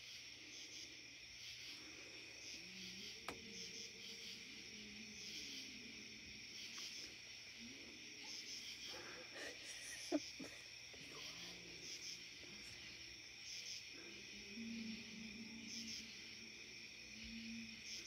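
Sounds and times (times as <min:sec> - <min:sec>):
high-pitched insect chorus: 0:00.0 - 0:18.0
faint low animal calls: 0:01.7 - 0:18.0.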